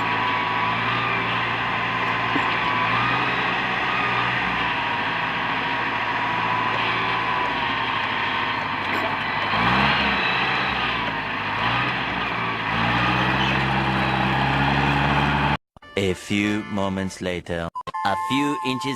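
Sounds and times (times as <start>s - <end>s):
excavator diesel engine running: 0.0s - 15.6s.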